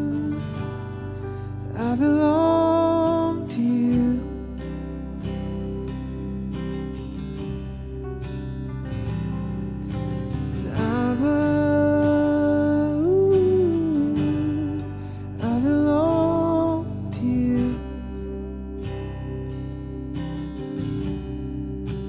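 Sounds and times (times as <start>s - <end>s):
acoustic guitar strumming: 0.0s - 22.0s
slow melody: 0.0s - 22.0s.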